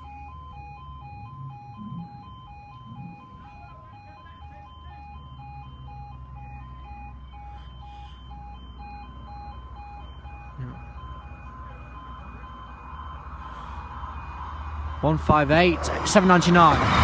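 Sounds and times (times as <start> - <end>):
level crossing alarm two tones: 0.0 - 15.9.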